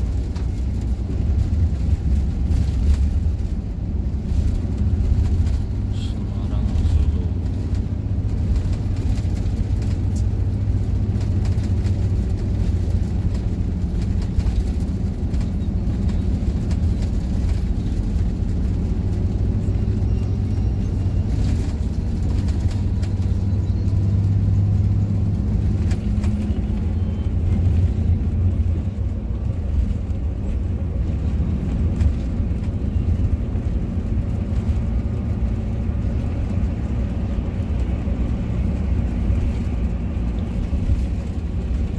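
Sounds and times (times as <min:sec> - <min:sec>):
coach engine and tyres droning: 0:00.0 - 0:41.9.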